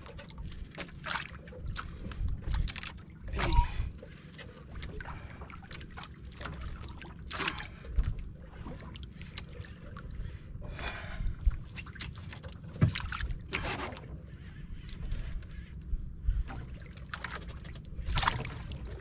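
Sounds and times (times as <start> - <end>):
water lapping at boat hull: 0.0 - 19.0
water splashes: 0.0 - 19.0.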